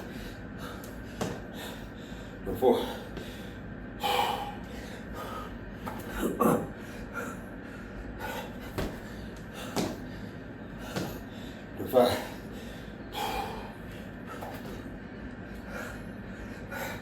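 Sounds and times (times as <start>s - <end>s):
man breathing hard: 0.0s - 17.0s
steady low hum: 0.0s - 17.0s.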